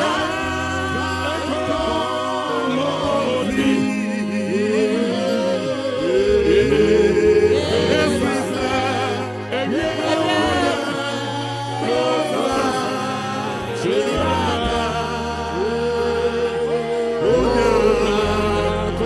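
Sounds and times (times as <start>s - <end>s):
sustained bass notes: 0.0s - 19.0s
voices singing slow chorus: 0.0s - 19.0s.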